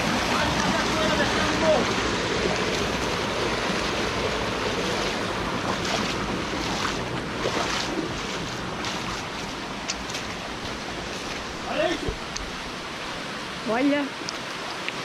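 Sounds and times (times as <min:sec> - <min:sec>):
sharp water splashes: 0:00.0 - 0:15.0
waterfall rushing: 0:00.0 - 0:15.0.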